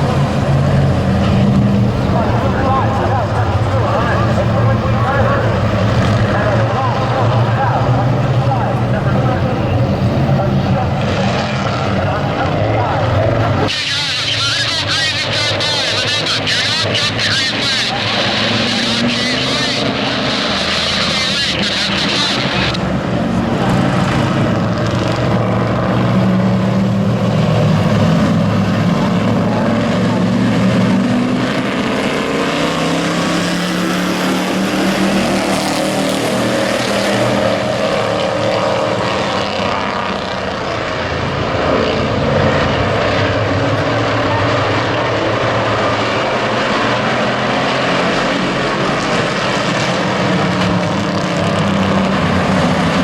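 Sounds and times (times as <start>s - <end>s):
race truck engines droning: 0.0s - 53.0s.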